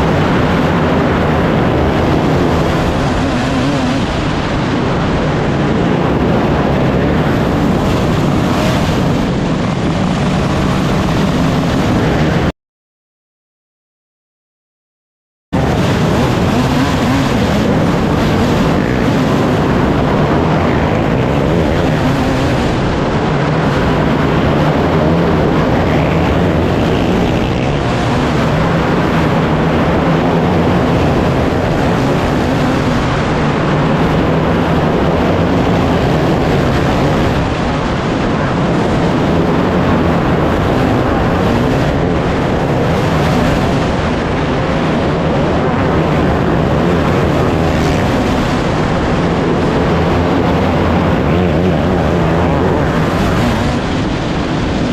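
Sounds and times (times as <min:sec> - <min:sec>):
race car engines: 0:00.0 - 0:12.5, 0:15.5 - 0:54.9.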